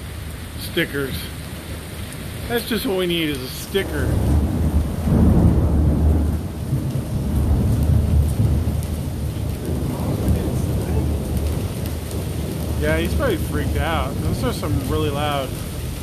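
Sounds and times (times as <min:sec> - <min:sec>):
steady rain: 0:00.0 - 0:16.0
thunder rumbling: 0:02.6 - 0:16.0.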